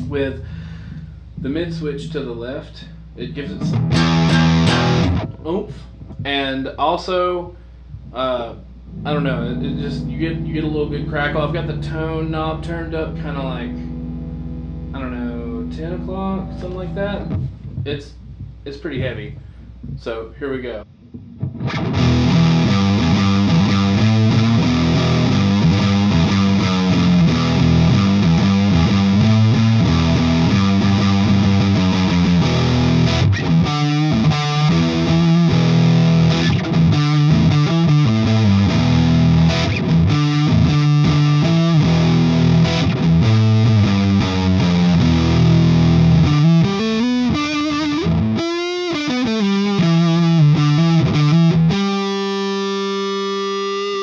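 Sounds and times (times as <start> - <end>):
fuzz electric guitar riffs: 0.0 - 6.6, 8.0 - 19.6, 20.8 - 54.0.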